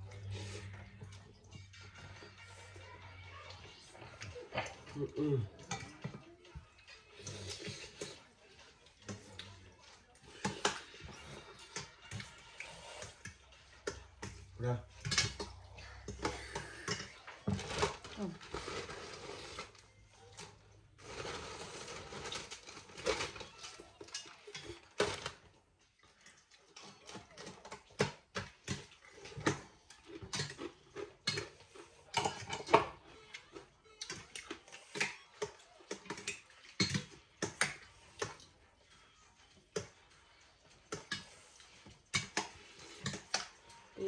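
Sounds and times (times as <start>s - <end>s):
utensils clinking against pots: 0.0s - 19.8s, 20.4s - 38.6s, 39.2s - 44.0s.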